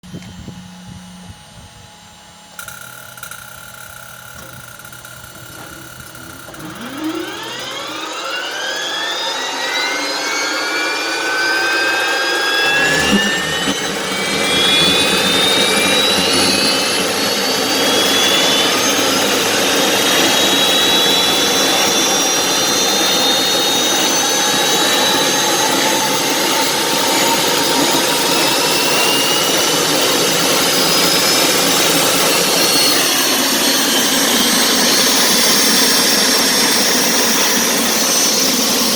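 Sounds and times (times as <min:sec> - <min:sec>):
helicopter turbine whine: 0:00.0 - 0:38.9
deep engine rush: 0:05.5 - 0:38.9.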